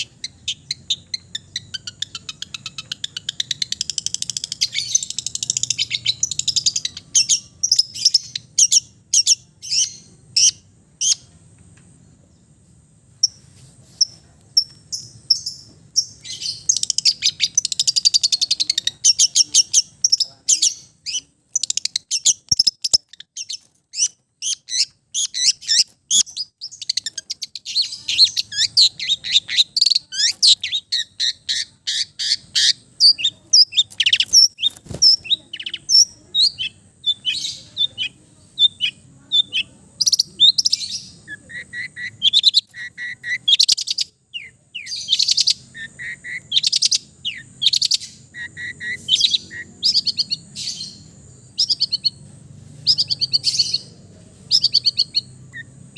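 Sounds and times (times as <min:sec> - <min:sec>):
bird singing varied chirps and trills: 0:00.0 - 0:55.9.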